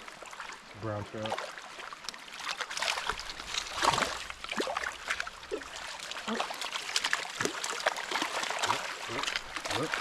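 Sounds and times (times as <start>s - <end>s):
stream water trickling: 0.0s - 10.0s
water splashing: 0.0s - 10.0s.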